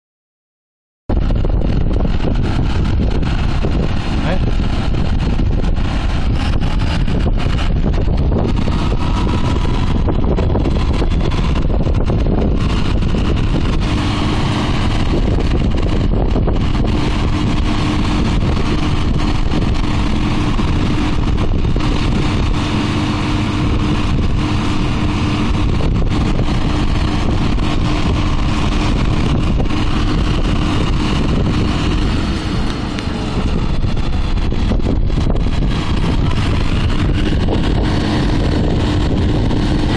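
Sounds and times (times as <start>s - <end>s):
steady droning tone: 1.1s - 39.9s
tractor and baler running: 1.1s - 39.9s
wind buffeting microphone: 1.1s - 39.9s.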